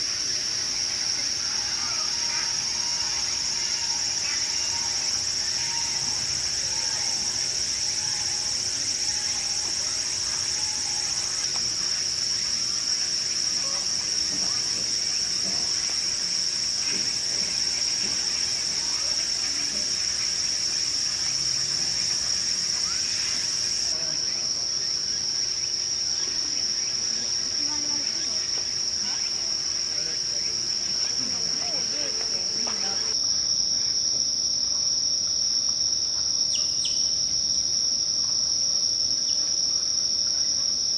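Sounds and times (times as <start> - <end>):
insects chorus shrill drone: 0.0 - 40.9.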